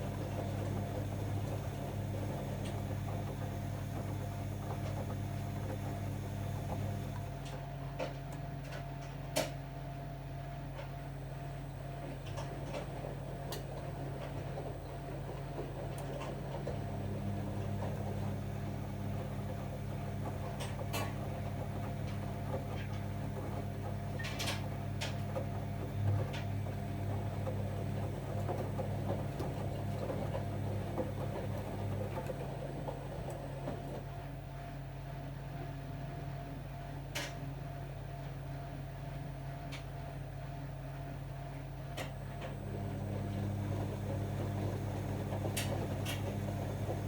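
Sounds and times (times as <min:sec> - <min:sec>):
washing machine drum motor hum: 0:00.0 - 0:47.0.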